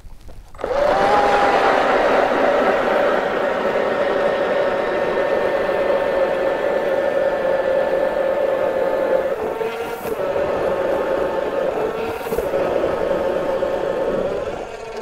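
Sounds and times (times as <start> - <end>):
ice auger motor whine: 0.5 - 15.0.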